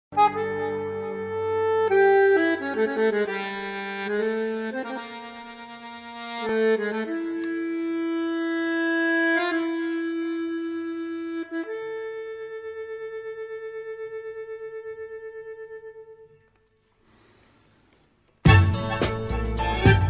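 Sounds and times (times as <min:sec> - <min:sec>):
accordion melody: 0:00.1 - 0:16.6, 0:18.4 - 0:20.0.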